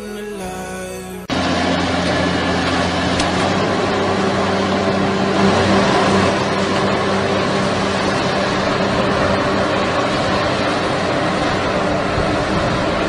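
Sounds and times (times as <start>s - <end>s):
heavy machine engine droning: 0.0s - 13.0s.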